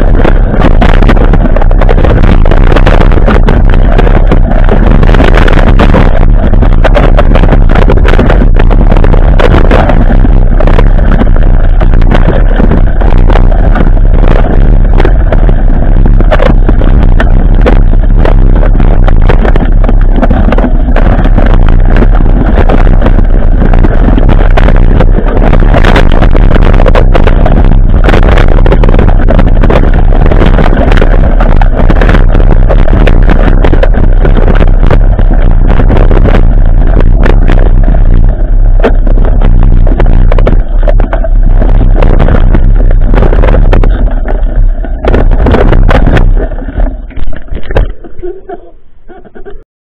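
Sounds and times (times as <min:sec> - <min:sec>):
wind rumble on microphone: 0:00.0 - 0:49.6.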